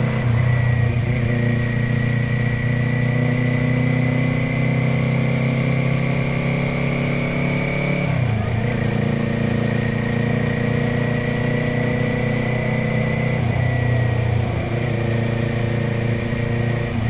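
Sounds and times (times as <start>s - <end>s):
motorcycle engine and exhaust: 0.0s - 17.0s.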